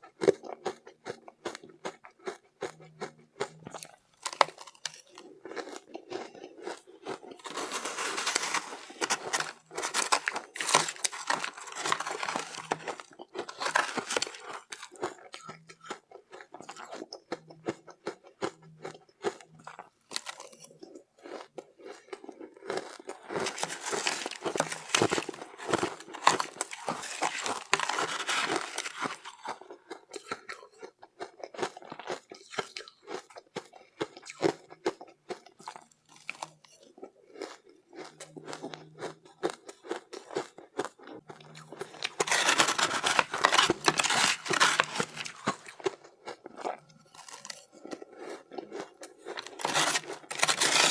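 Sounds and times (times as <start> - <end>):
chewing crunchy ice: 0.0 - 50.9.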